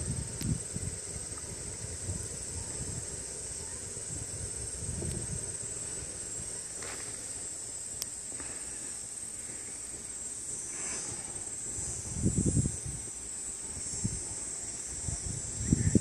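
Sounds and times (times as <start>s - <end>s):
low rumble on microphone: 0.0s - 7.4s, 9.4s - 16.0s
insects trilling: 0.0s - 16.0s.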